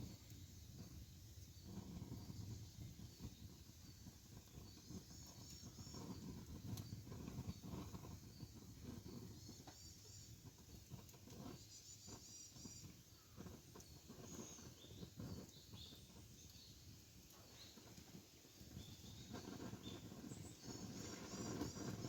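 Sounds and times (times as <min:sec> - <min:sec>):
sharp pops from burning wood: 0:00.0 - 0:22.0
wood fire crackling: 0:00.0 - 0:22.0.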